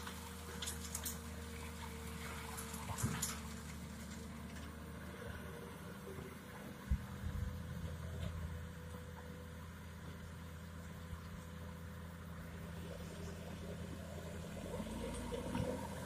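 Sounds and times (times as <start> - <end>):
distant diesel engines humming: 0.0 - 16.0.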